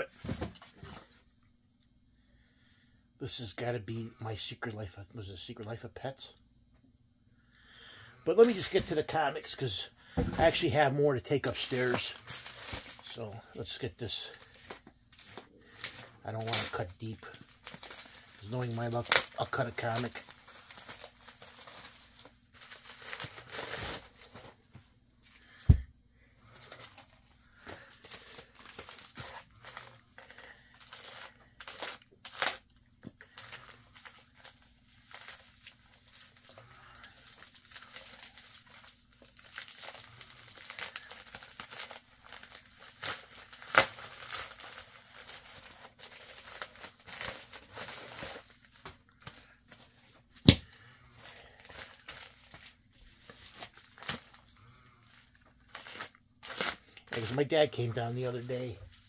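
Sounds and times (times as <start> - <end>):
plastic mailer crinkling and tearing: 8.3 - 24.8, 26.5 - 59.0.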